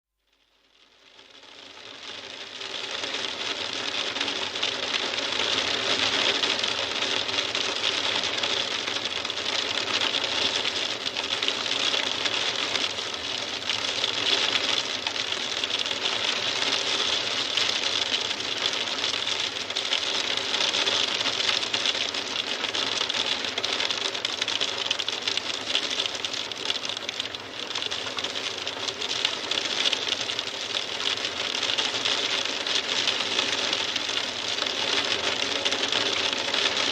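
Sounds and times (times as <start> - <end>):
hail falling: 1.8 - 36.9.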